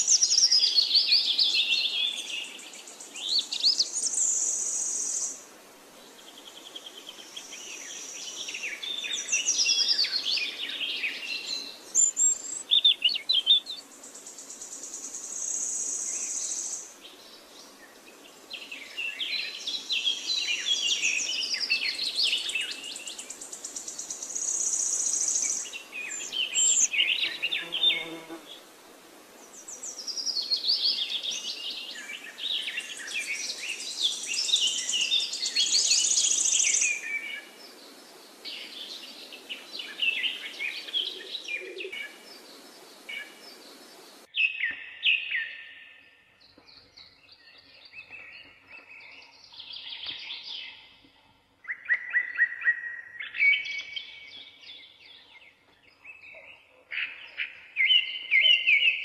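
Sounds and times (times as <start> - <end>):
birds chirping: 6.1 - 28.7, 29.4 - 59.0.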